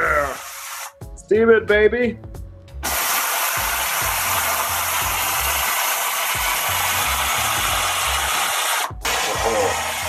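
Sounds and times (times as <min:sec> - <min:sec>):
pressure cooker steam hissing: 0:00.0 - 0:01.0, 0:02.8 - 0:10.0.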